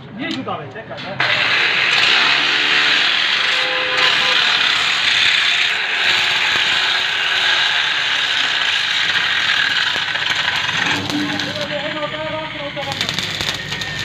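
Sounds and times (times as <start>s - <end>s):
arc welding crackling hiss: 1.2s - 12.0s, 12.8s - 14.0s.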